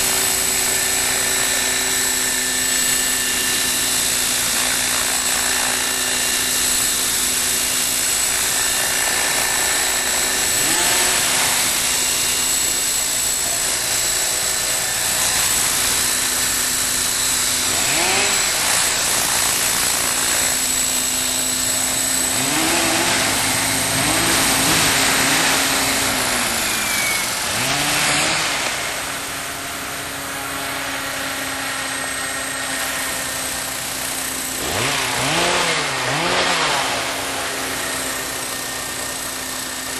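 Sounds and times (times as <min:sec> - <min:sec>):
model helicopter flying: 0:00.0 - 0:39.9.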